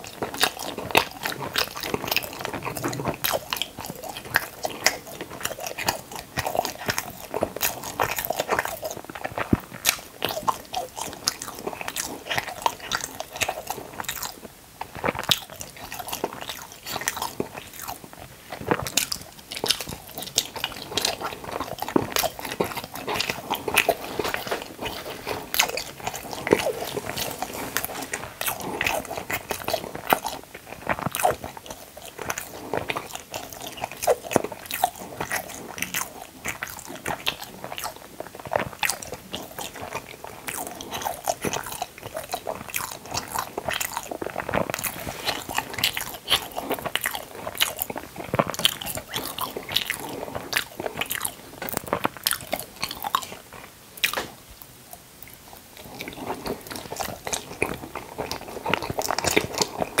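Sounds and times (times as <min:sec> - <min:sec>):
wet chewing sounds: 0:00.0 - 1:00.0.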